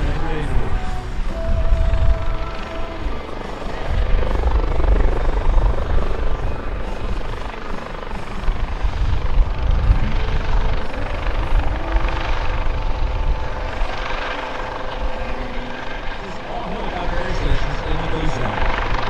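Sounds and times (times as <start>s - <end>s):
helicopter hovering: 0.0s - 19.0s
thin turbine whine: 0.0s - 19.0s.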